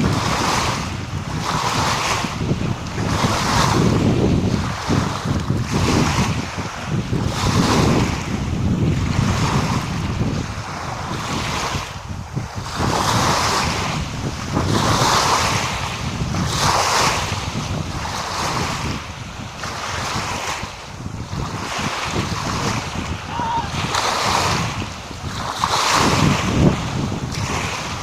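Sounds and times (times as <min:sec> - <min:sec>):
small waves washing in: 0:00.0 - 0:28.0
wind rumbling on microphone: 0:00.0 - 0:28.0.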